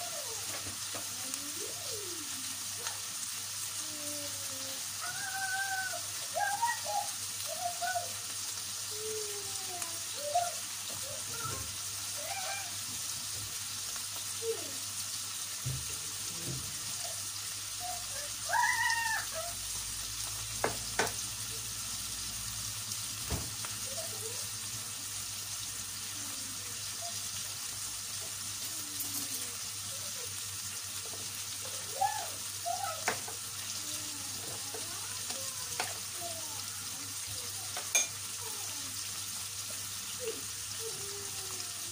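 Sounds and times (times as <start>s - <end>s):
beef and vegetables sizzling: 0.0s - 41.9s.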